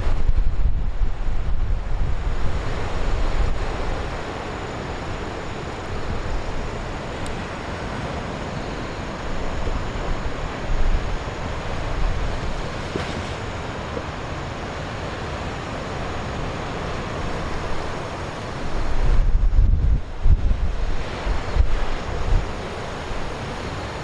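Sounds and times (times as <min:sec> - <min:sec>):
heavy surf breaking: 0:00.0 - 0:24.0
wind buffeting microphone: 0:00.0 - 0:24.0.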